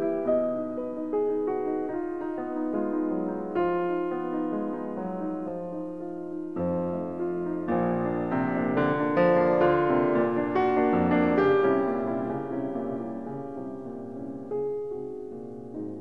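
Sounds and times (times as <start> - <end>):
piano-like instrumental music: 0.0 - 16.0.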